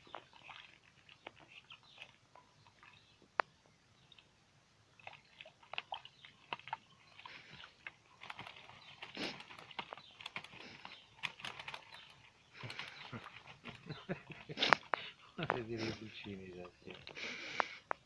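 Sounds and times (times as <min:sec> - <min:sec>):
ducks dabbling in water bowl: 0:00.0 - 0:18.0.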